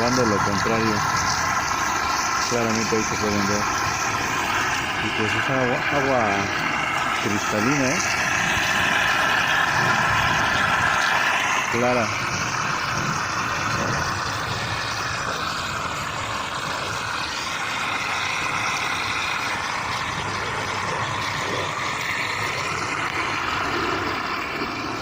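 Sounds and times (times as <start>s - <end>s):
distant engine noise: 0.0s - 25.0s.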